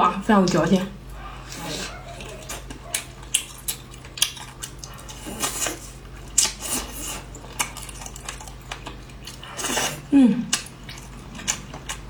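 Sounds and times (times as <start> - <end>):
noisy chewing: 0.3 - 12.0.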